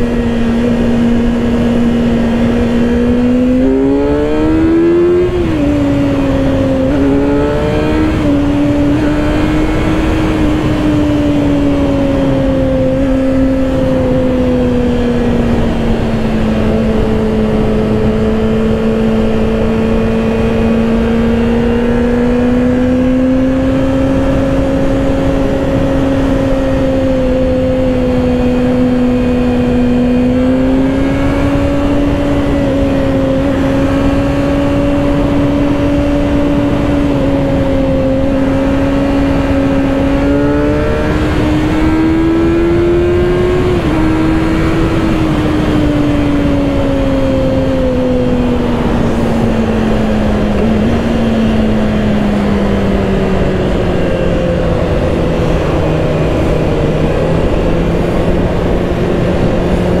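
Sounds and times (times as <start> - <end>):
motorcycle engine cruising: 0.0 - 60.0
wind noise: 0.0 - 60.0.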